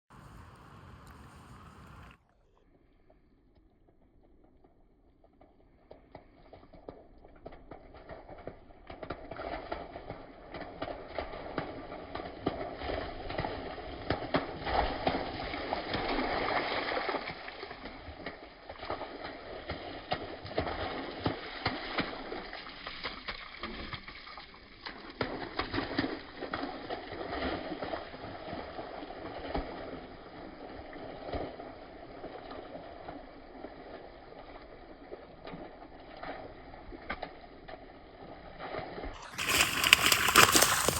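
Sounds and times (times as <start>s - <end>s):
dog paws splashing in puddles: 0.2s - 2.2s, 3.8s - 40.9s.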